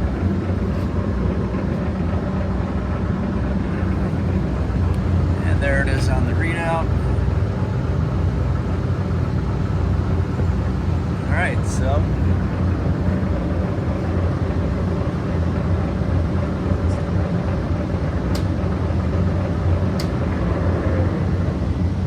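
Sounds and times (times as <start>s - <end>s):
lathe machine hum: 0.0s - 22.0s.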